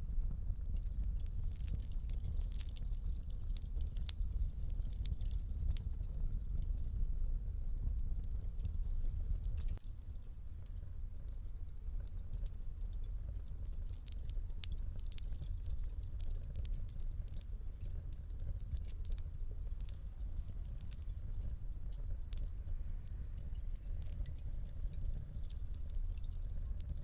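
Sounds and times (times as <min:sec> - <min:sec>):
low fire rumble: 0:00.0 - 0:27.0
wood fire crackling: 0:00.0 - 0:27.0.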